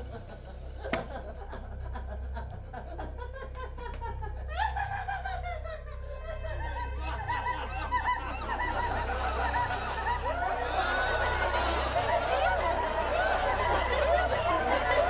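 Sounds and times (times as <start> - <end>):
low hum: 0.0 - 15.0
people laughing: 0.0 - 15.0.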